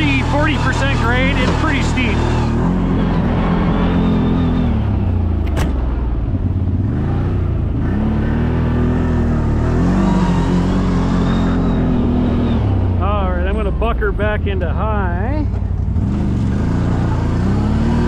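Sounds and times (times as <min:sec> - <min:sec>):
vehicle engine revving uphill: 0:00.0 - 0:18.0.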